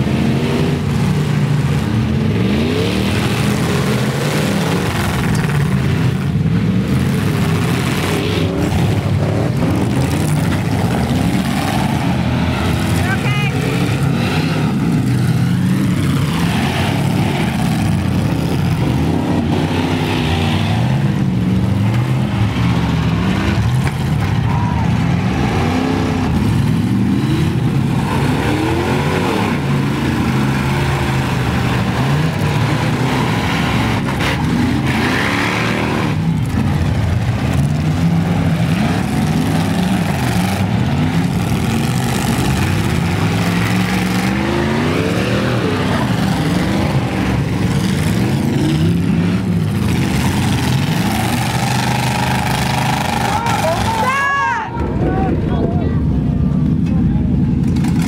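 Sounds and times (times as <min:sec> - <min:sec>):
pickup truck engines revving: 0:00.0 - 0:58.0.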